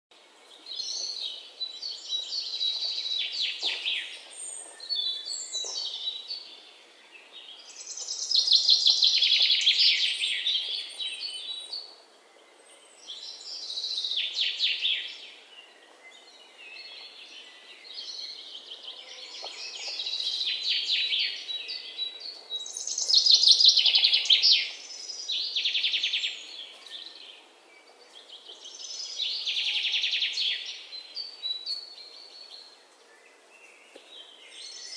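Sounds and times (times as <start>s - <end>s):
birds chirping and trilling: 0.2s - 34.9s.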